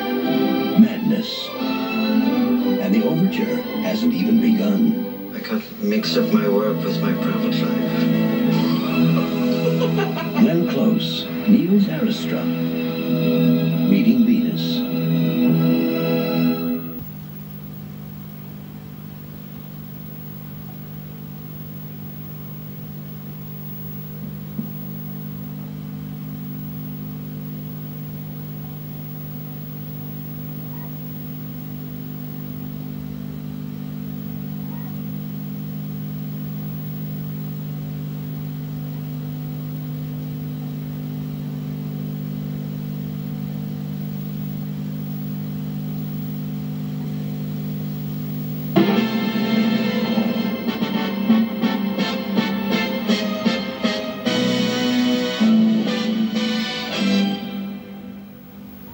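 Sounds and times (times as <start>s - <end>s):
low electrical hum: 0.0s - 58.9s.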